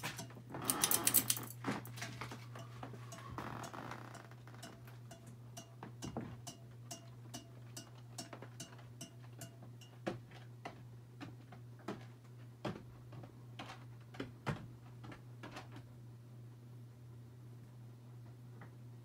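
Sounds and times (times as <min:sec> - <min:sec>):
ceiling fan ticking: 0:00.0 - 0:15.8
ceiling fan motor hum: 0:00.0 - 0:19.0.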